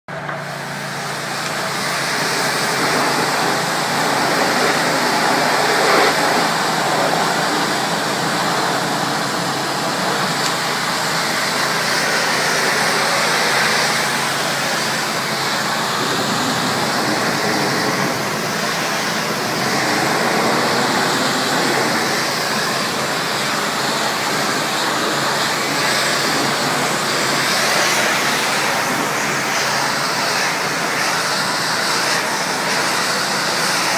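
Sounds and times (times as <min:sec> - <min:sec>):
pressure washer spraying: 0:00.3 - 0:33.9.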